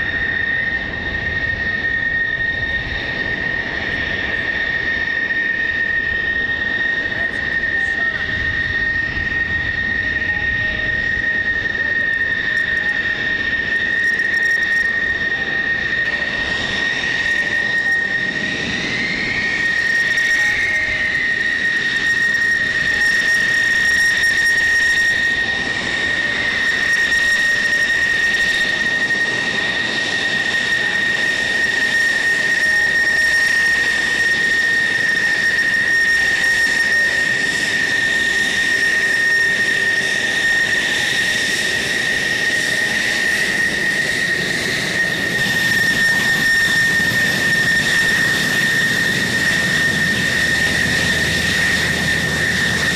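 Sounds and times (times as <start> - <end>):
jet engines idling whine: 0.0 - 52.9.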